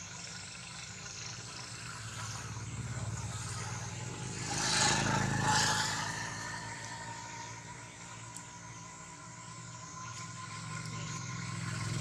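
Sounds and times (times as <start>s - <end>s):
steady low hum: 0.0s - 12.0s
road vehicle passing: 1.4s - 12.0s.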